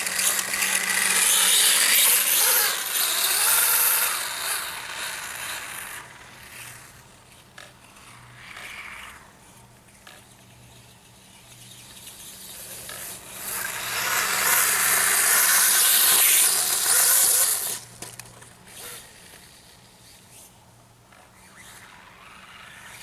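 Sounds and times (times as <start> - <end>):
toy dirt bike running on dirt: 0.0 - 23.0.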